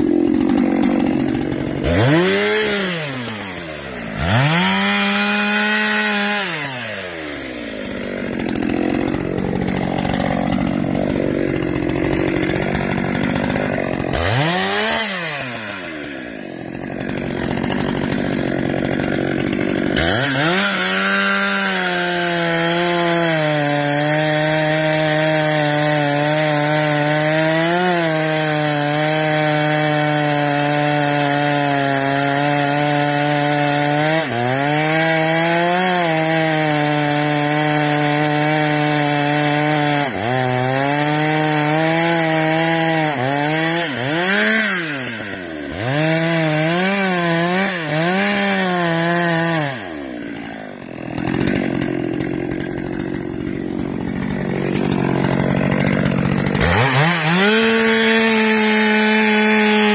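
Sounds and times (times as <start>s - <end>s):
chainsaw cutting tree: 0.0s - 59.9s.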